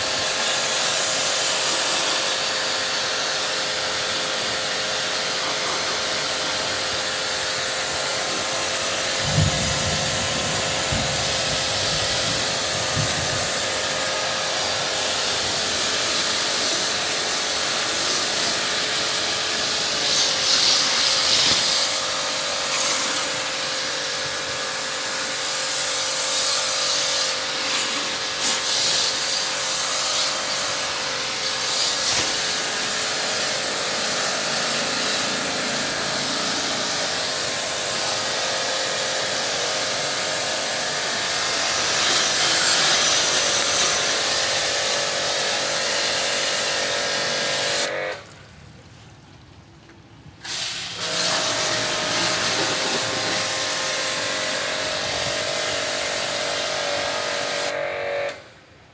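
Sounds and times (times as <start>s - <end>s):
pressure washer spraying: 0.0s - 48.4s, 50.4s - 58.4s.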